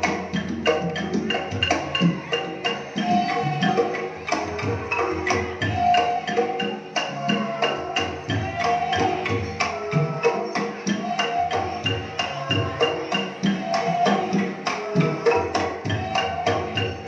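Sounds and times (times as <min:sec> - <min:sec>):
hand drums: 0:00.0 - 0:17.0
struck tuned percussion: 0:00.0 - 0:17.0.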